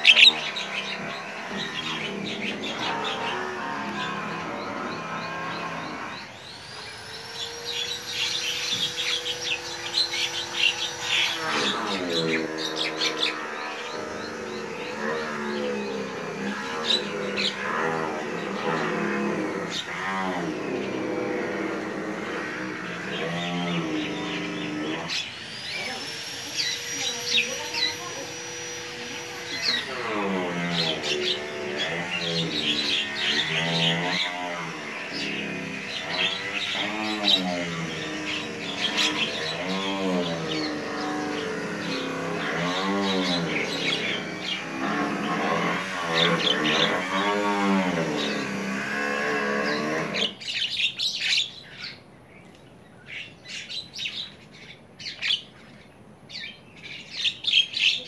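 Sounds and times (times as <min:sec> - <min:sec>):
held steady tones: 0:00.0 - 0:47.0
wavering pitched sounds: 0:00.0 - 0:50.6
small birds twittering: 0:00.0 - 0:58.0.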